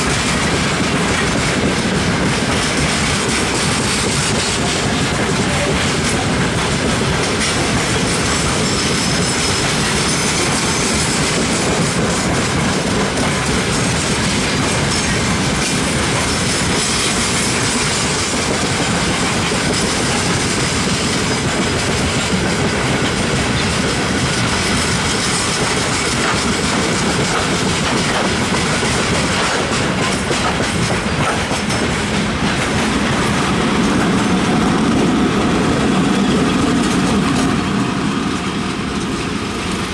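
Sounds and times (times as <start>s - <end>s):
train wheels clattering on rail joints: 0.0s - 39.9s.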